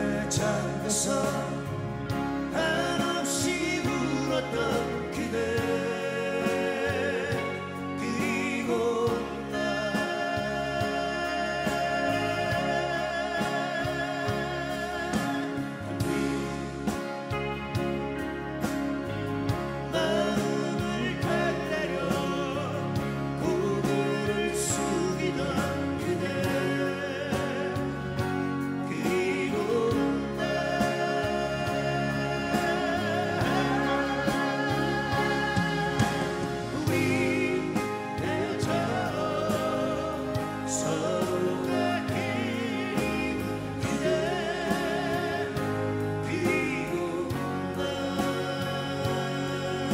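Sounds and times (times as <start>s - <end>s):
person singing: 0.0s - 18.1s, 19.5s - 49.9s
folk-pop band playing: 0.0s - 49.9s
keyboards: 0.0s - 49.9s
percussion: 0.0s - 49.9s
strummed acoustic guitars: 0.0s - 49.9s.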